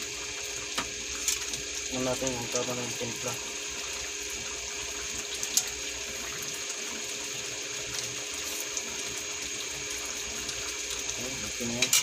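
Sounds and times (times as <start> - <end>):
sauce simmering in frying pan: 0.0 - 12.0.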